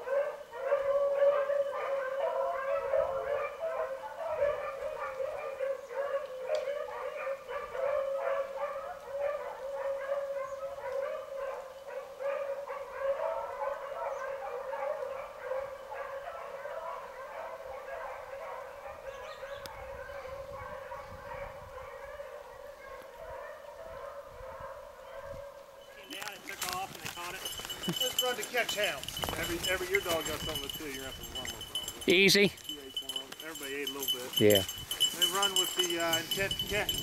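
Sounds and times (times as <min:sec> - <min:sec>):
dogs baying: 0:00.0 - 0:37.0.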